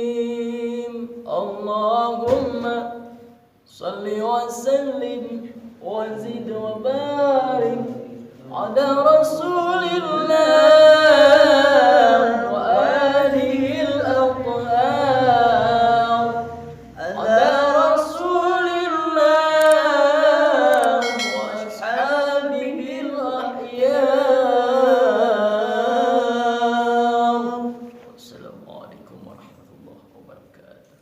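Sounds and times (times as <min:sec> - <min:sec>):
man chanting unaccompanied: 0:00.0 - 0:03.1, 0:03.7 - 0:30.8.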